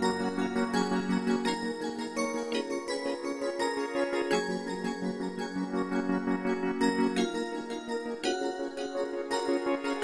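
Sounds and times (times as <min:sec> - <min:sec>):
background music sustained chords: 0:00.0 - 0:10.0.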